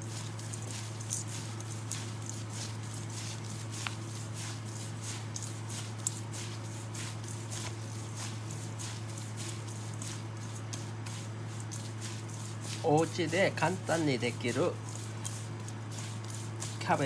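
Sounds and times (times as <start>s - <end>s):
steady low hum: 0.0s - 17.0s
wet cabbage squelching and rustling: 0.0s - 17.0s.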